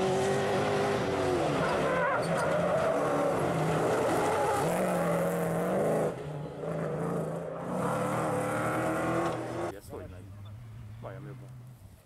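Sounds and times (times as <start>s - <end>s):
car engine revving hard: 0.0s - 9.7s.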